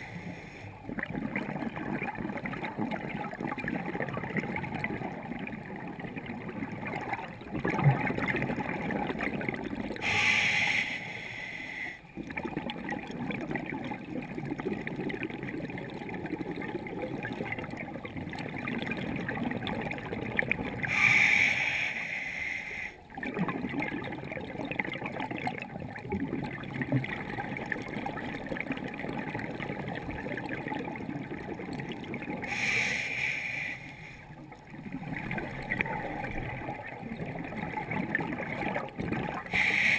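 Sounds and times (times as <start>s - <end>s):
scuba regulator exhaust bubbles: 0.0s - 11.4s, 12.1s - 22.0s, 23.0s - 39.9s.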